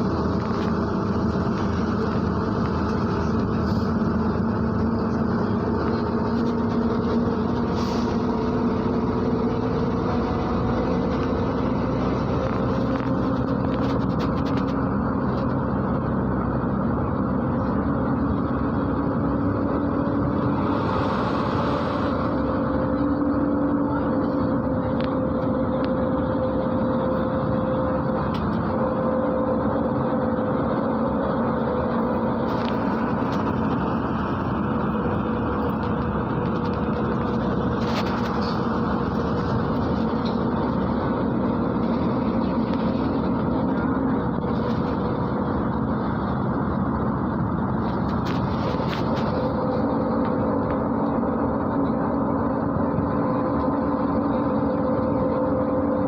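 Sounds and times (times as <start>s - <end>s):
bus engine and road noise: 0.0s - 56.0s
faint steady whine: 0.0s - 56.0s.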